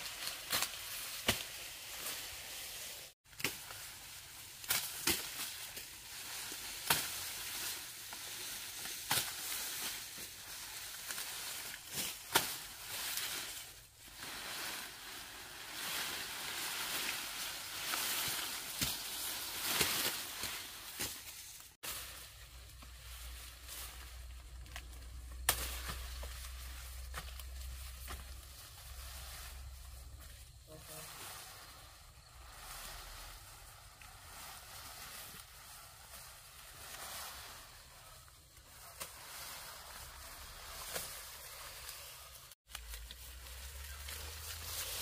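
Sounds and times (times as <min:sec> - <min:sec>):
grass rustling: 0:00.0 - 0:45.0.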